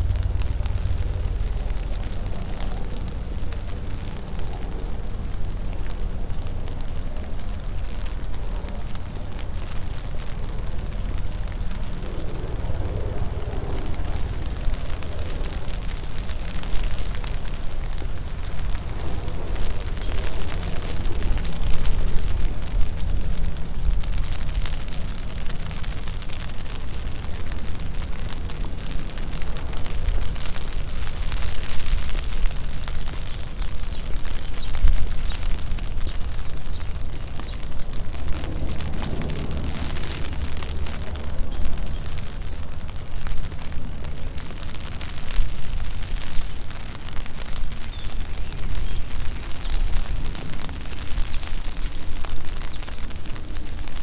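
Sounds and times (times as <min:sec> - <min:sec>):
tyres swishing on wet road: 0:00.0 - 0:54.0
wet traffic rumble and hiss: 0:00.0 - 0:54.0.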